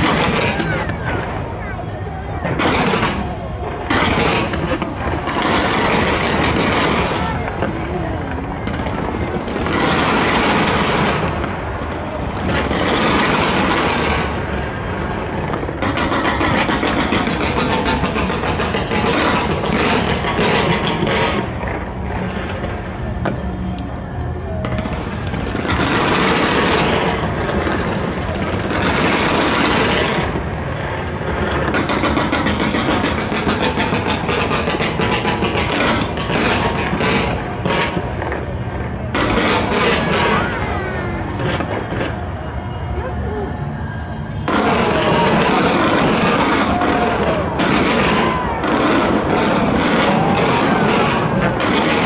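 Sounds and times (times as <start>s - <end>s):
fireworks crackling pops: 0.0s - 52.0s
fireworks rushing roar: 0.0s - 52.0s.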